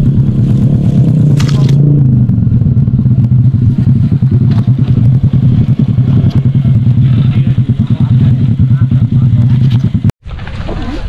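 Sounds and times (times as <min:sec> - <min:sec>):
motorbike engine throbbing: 0:00.0 - 0:10.1.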